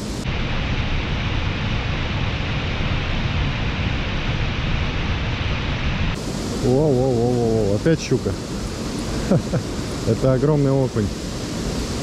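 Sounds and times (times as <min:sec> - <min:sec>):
flickering low rumble: 0:00.0 - 0:12.0
steady rushing noise: 0:00.0 - 0:12.0.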